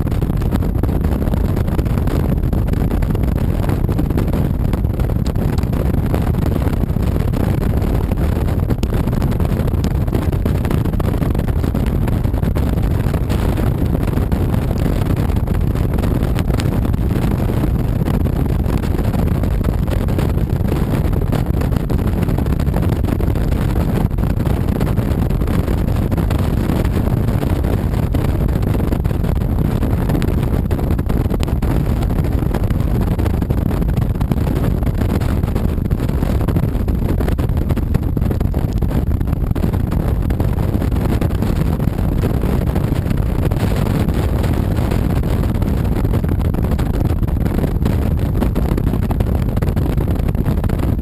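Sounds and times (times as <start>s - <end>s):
wind rush: 0.0s - 51.0s.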